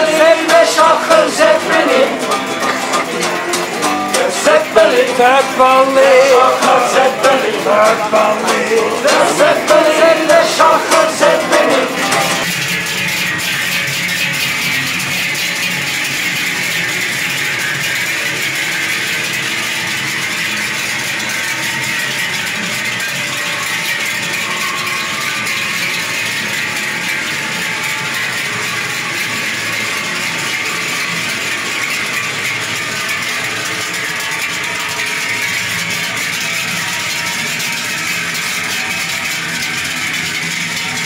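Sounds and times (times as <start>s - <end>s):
cowbells clanging: 0.0s - 41.0s.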